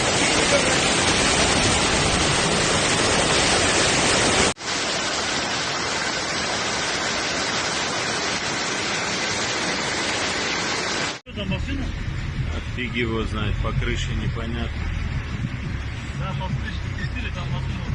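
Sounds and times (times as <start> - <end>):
water rushing in heavy downpour: 0.0 - 17.9.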